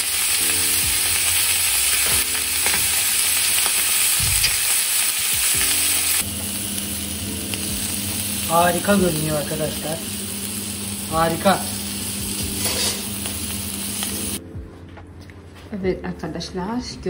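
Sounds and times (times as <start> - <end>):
meat sizzling in a grill pan: 0.0 - 14.4.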